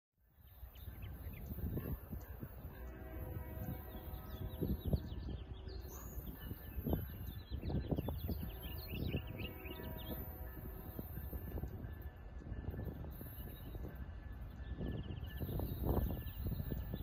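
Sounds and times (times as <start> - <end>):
wind rumble on microphone: 0.6 - 17.0.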